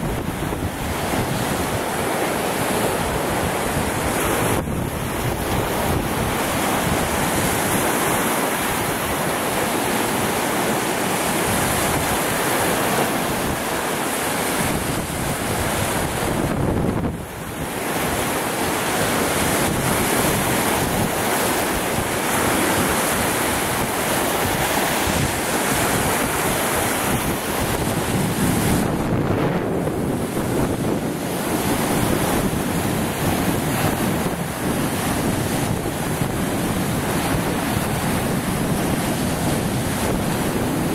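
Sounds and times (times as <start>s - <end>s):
waves breaking on rock: 0.0s - 40.9s
wind buffeting microphone: 0.0s - 40.9s.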